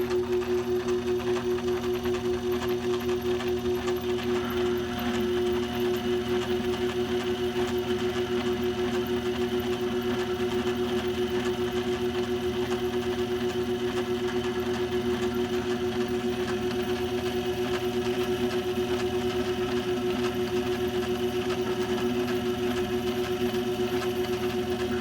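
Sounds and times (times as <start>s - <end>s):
lathe motor hum and whine: 0.0s - 25.0s.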